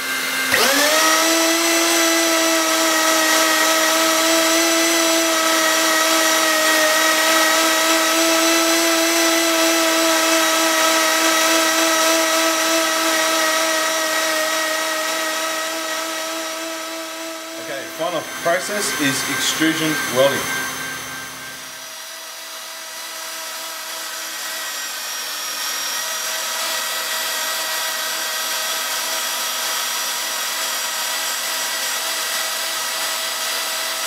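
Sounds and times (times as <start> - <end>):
welding gun motor whine: 0.0 - 29.4.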